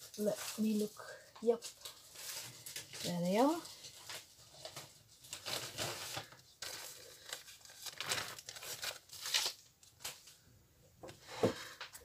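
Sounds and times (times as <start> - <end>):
plastic sheets crinkling: 0.0 - 10.4.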